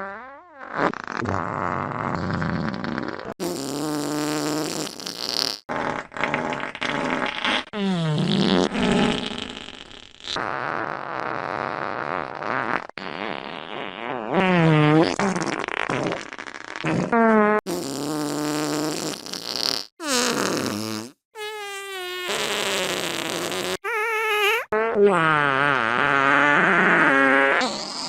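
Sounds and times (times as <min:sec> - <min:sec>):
fart sound effects: 0:00.0 - 0:28.0.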